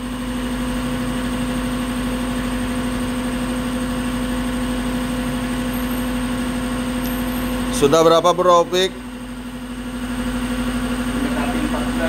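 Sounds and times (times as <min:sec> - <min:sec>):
motor humming with fast pulse: 0:00.0 - 0:12.0.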